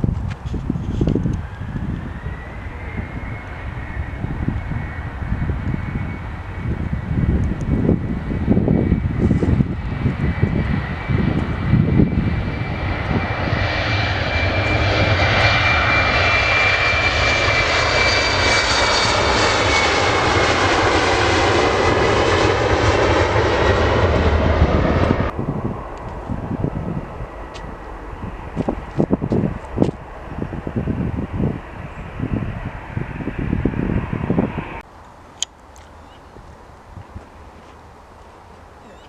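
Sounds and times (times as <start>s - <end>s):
high engine whine: 0.0s - 36.2s
jet engines roaring past: 0.0s - 39.0s
wind buffeting microphone: 0.0s - 39.0s.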